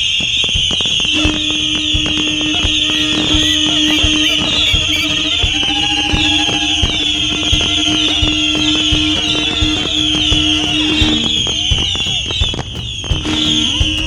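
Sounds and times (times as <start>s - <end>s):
fireworks whistling: 0.3s - 14.0s.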